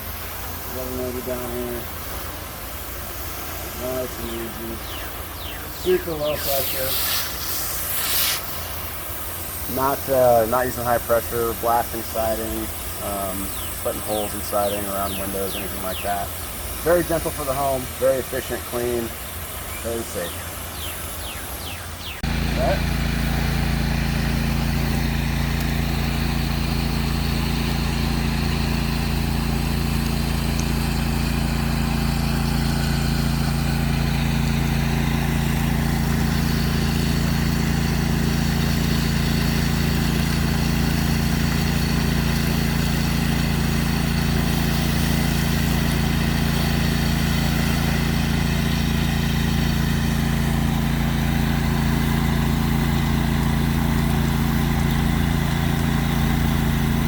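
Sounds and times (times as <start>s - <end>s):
even hiss: 0.0s - 57.0s
pressure washer engine running: 0.0s - 57.0s.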